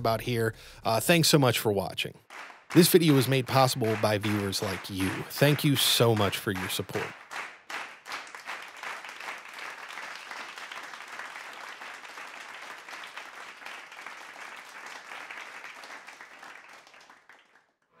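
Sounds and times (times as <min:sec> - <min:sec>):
audience applauding: 0:02.2 - 0:17.7.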